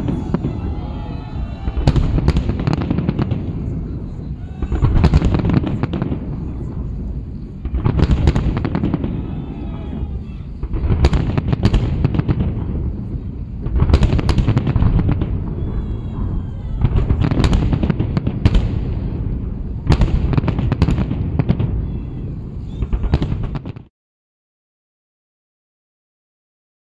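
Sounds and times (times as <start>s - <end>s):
firework shells bursting: 0.0s - 23.9s.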